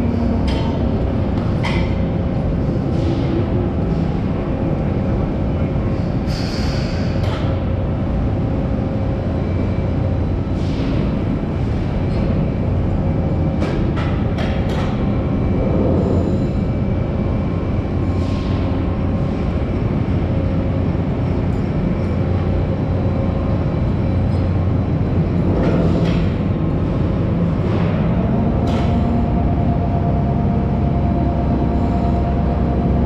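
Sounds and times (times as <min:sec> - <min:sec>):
crane mechanical rumble: 0:00.0 - 0:06.3, 0:07.0 - 0:33.0.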